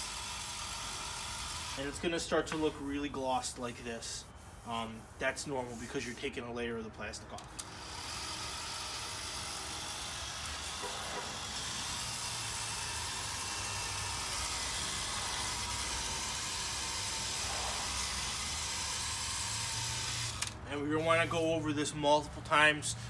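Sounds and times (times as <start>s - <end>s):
cordless drill sanding plastic: 0.0s - 6.6s, 7.5s - 23.0s.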